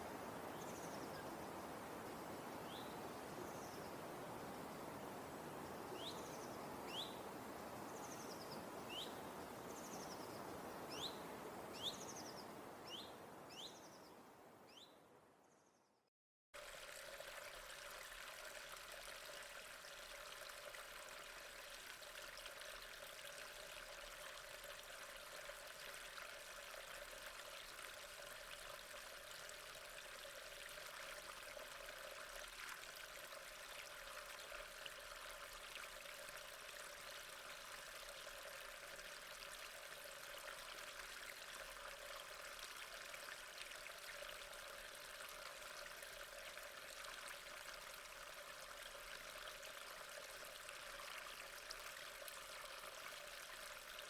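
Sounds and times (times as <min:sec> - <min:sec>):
stream trickling: 0:00.0 - 0:15.0, 0:16.6 - 0:54.0.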